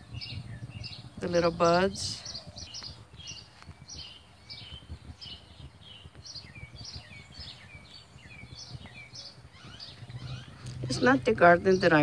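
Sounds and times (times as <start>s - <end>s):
low rumble: 0.0s - 12.0s
small birds chirping: 0.0s - 12.0s.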